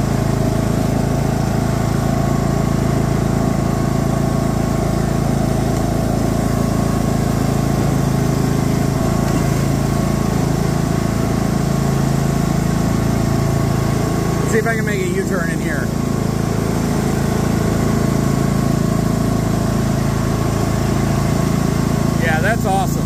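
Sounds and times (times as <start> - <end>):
lawn tractor engine droning: 0.0 - 23.0.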